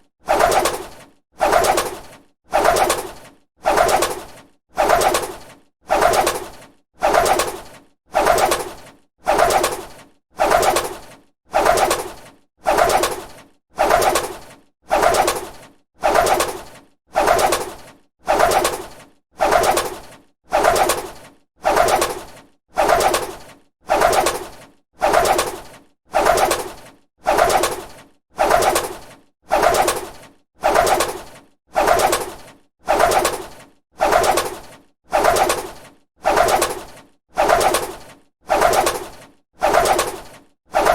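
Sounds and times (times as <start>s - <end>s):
bird wings flapping: 0.3s - 40.9s.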